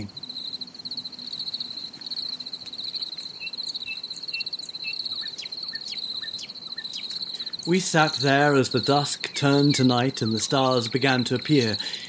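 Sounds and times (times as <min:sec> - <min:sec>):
crickets chirping: 0:00.0 - 0:12.0
falling chirps: 0:00.0 - 0:12.0.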